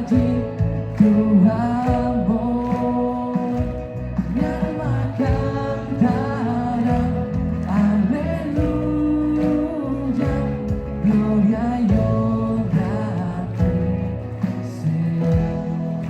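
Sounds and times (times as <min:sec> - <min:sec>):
person singing: 0:00.0 - 0:16.0
worship band playing: 0:00.0 - 0:16.0.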